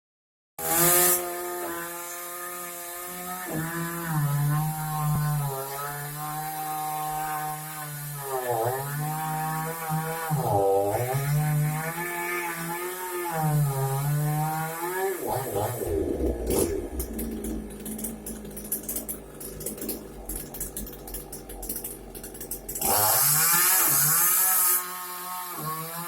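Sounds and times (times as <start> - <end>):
chainsaw cutting wood: 0.6 - 26.0.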